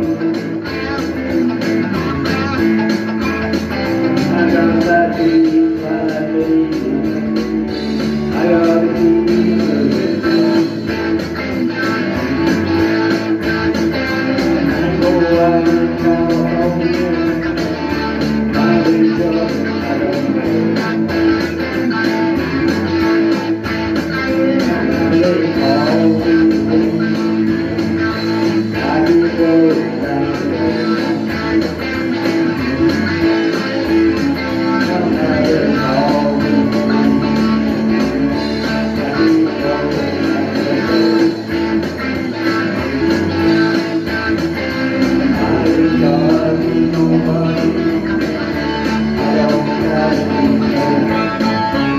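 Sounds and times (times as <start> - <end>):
guitar playing: 0.0 - 51.9.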